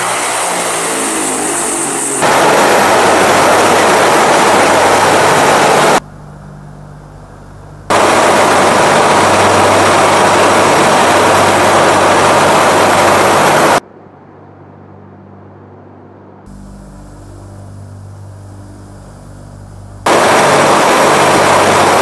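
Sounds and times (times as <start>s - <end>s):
low drone: 0.0s - 22.0s
turboprop engines roaring: 0.0s - 22.0s.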